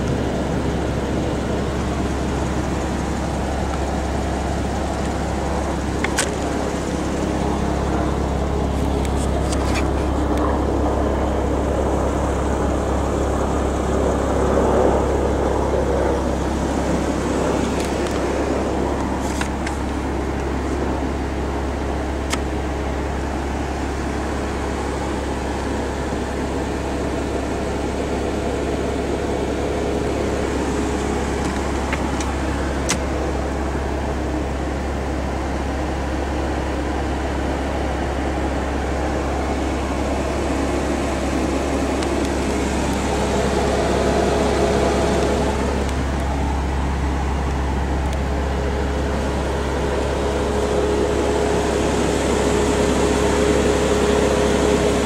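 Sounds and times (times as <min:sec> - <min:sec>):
vehicle low hum: 0:00.0 - 0:55.0.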